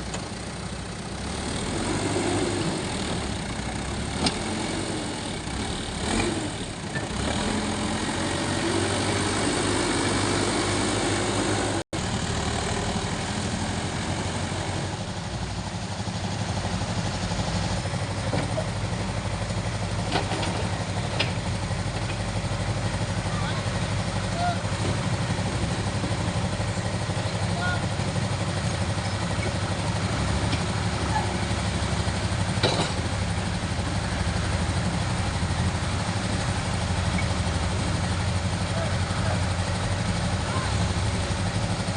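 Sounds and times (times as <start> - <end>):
heavy machine engine running: 0.0 - 41.9.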